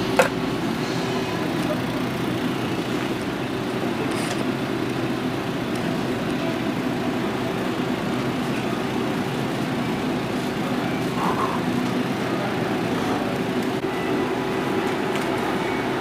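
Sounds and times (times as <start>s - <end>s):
refrigerated coolers humming: 0.0s - 16.0s.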